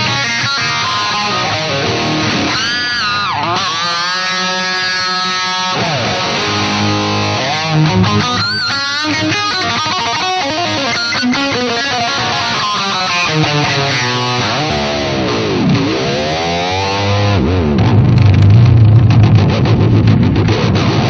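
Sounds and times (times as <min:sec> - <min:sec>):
distorted electric guitar: 0:00.0 - 0:21.0.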